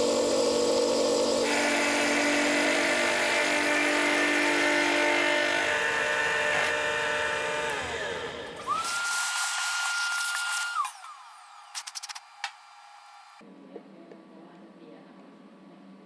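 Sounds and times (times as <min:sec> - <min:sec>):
milling machine cutting metal: 0:00.0 - 0:13.4.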